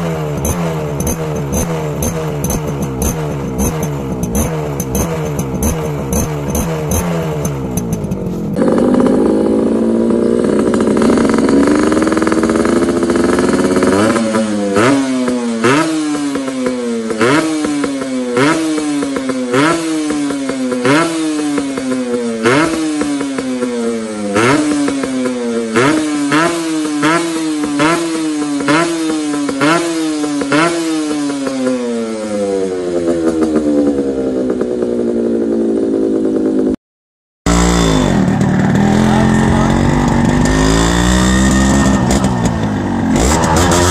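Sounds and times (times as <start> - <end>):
another two-stroke engine running: 0.0 - 36.8, 37.5 - 43.9
motorcycle engine revving: 0.0 - 36.8, 37.5 - 43.9.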